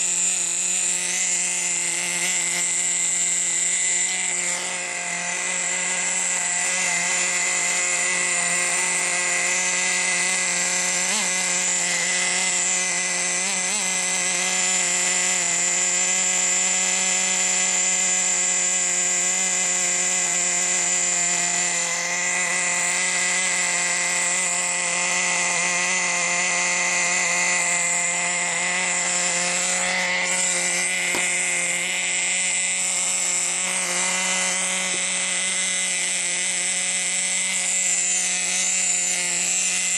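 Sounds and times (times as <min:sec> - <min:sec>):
small nitro engine buzzing: 0:00.0 - 0:39.9.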